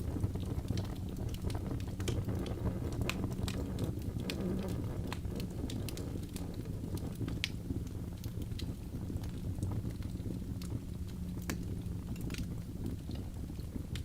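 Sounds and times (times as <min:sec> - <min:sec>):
crackles and pops of burning logs: 0:00.0 - 0:14.0
low rumble of flames: 0:00.0 - 0:14.0.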